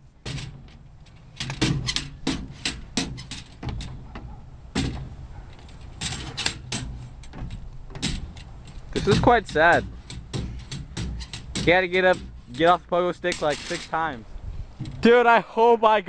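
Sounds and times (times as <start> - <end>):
pogo stick knocking on metal steps: 0.2 - 14.1, 14.8 - 15.2.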